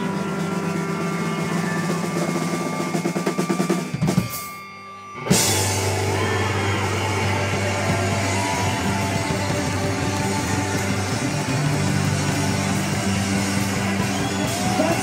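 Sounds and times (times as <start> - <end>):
drum roll: 0.0 - 4.5, 5.3 - 15.0
live rock band playing: 0.0 - 15.0.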